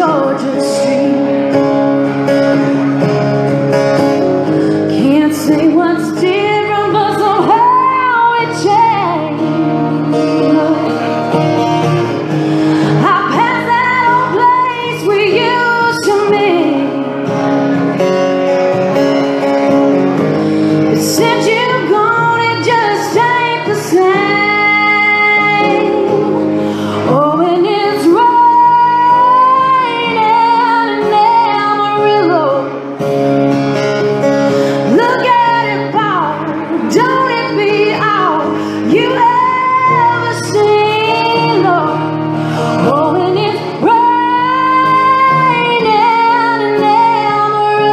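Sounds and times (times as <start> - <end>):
woman singing: 0.0 - 1.8, 4.7 - 11.8, 12.7 - 17.3, 20.7 - 32.9, 34.6 - 47.9
acoustic guitar chords: 0.0 - 47.9.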